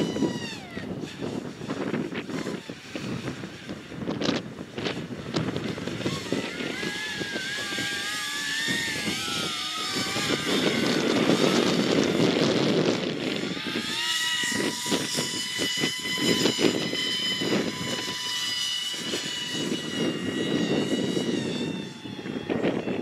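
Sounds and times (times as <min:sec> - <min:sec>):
electric fan whine: 0:00.0 - 0:23.0
wind rumble on microphone: 0:00.0 - 0:23.0.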